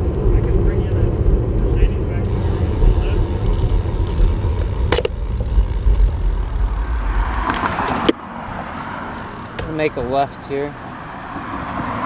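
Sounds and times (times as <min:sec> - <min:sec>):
wind rumbling on microphone: 0:00.0 - 0:10.1
road noise: 0:00.0 - 0:12.0.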